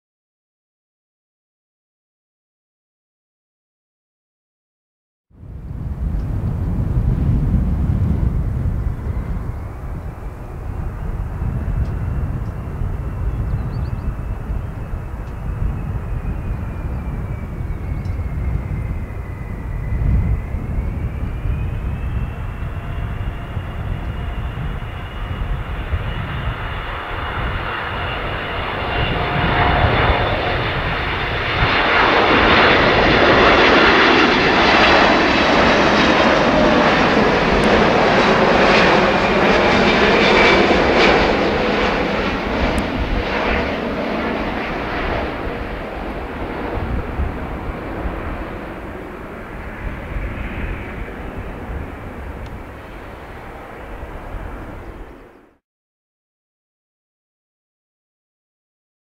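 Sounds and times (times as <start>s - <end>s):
jet engine whine: 5.3s - 55.6s
jet airliner passing: 5.4s - 55.6s.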